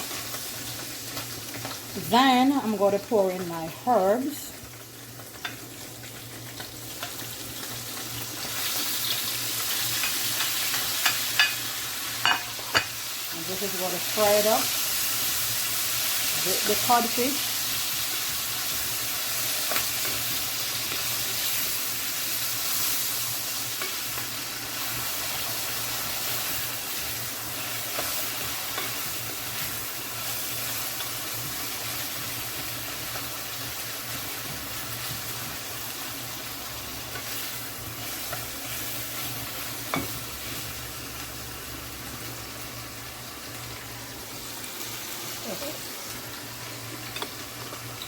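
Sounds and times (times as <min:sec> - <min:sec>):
fish frying in oil: 0:00.0 - 0:44.0.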